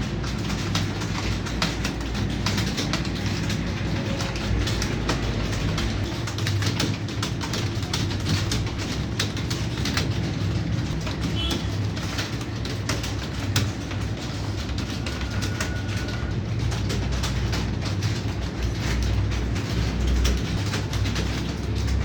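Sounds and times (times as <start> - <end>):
keyboards typing clatter: 0.0 - 22.0.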